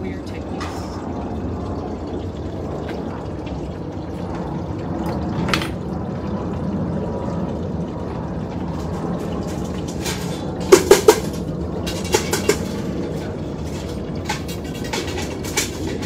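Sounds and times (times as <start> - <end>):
furnace burner rushing: 0.0 - 16.0.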